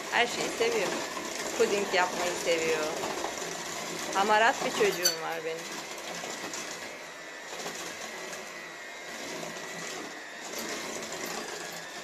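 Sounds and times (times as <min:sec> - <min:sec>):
beaters whisking in bowl: 0:00.0 - 0:08.5, 0:09.1 - 0:12.0
electric hand mixer running: 0:00.0 - 0:12.0.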